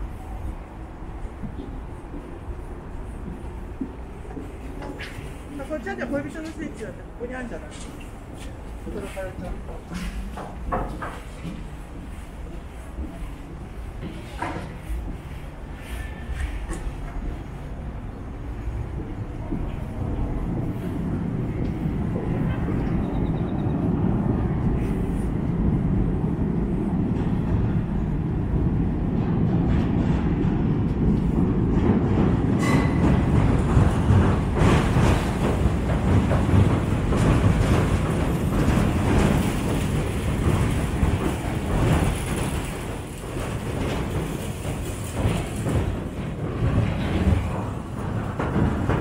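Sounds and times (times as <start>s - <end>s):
train rumbling over bridge: 0.0s - 49.0s
wheels clacking over rails: 3.2s - 49.0s.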